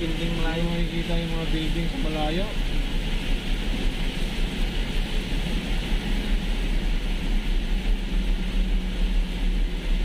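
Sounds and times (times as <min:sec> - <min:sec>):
faint engine hum: 0:00.0 - 0:10.0
low road rumble: 0:00.0 - 0:10.0.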